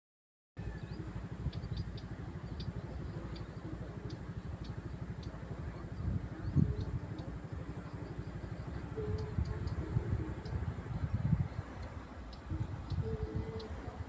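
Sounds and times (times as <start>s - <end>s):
faint high chirps: 0.6s - 14.0s
small engine throbbing: 0.6s - 14.0s.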